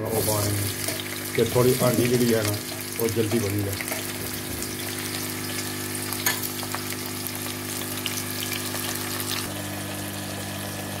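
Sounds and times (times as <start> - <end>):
onions sizzling in oil: 0.0 - 11.0
oil crackles and pops: 0.4 - 9.5.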